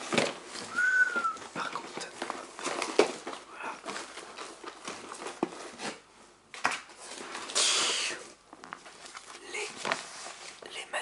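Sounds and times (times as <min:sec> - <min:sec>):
book pages rustling: 0:00.0 - 0:07.6, 0:08.2 - 0:10.8.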